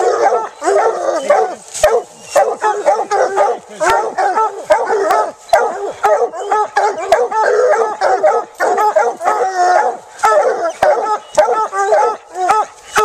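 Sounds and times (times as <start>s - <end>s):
hounds barking: 0.0s - 13.0s.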